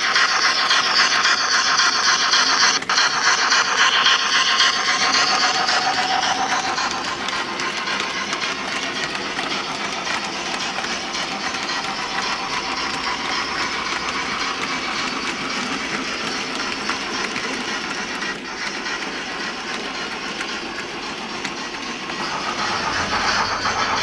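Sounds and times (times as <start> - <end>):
model train rattling on track: 0.0 - 24.0.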